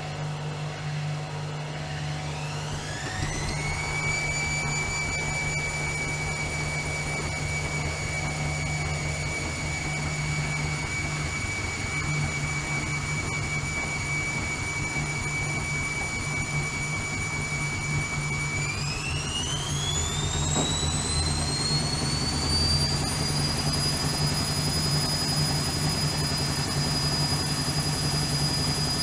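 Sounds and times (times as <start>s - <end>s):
washing machine spinning: 0.8s - 29.0s.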